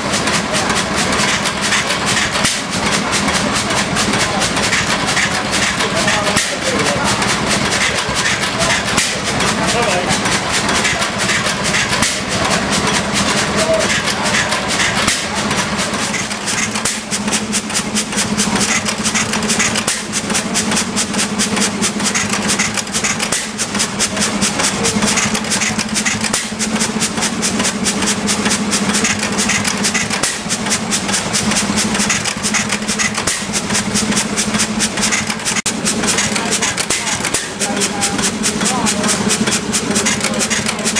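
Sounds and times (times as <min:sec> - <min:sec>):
stationary engine clattering: 0:00.0 - 0:40.9.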